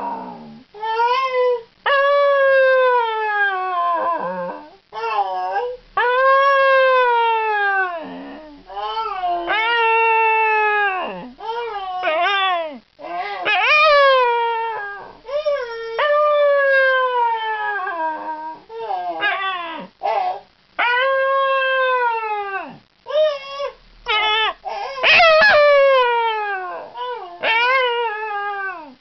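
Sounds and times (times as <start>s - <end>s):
dog howling: 0.0s - 29.0s.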